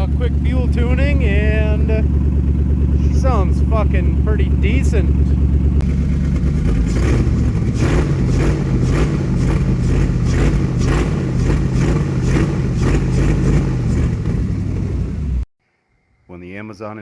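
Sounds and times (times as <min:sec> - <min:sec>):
engine running steadily: 0:00.0 - 0:15.5.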